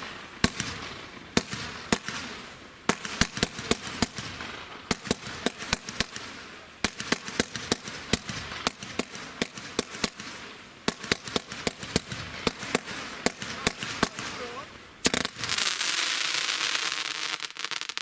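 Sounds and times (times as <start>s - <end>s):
crackling hiss: 0.0s - 18.0s
fireworks bangs: 0.0s - 18.0s.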